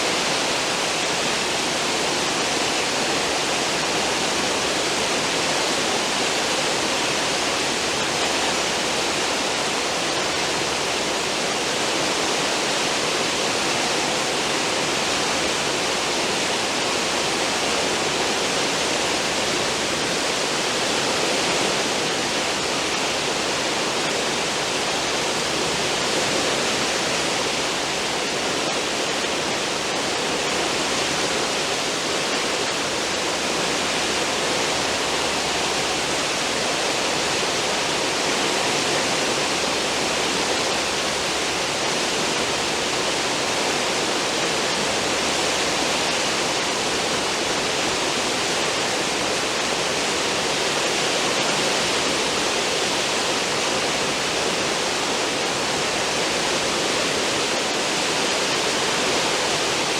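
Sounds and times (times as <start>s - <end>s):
ship wake water rushing: 0.0s - 59.9s.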